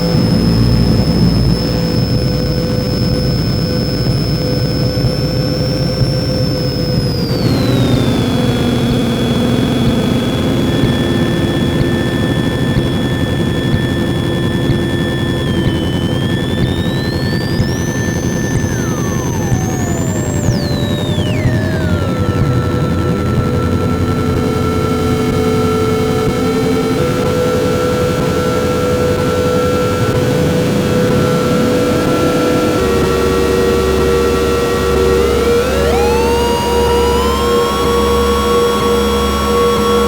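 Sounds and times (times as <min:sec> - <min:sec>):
dark ambient synthesizer drone: 0:00.0 - 0:40.0.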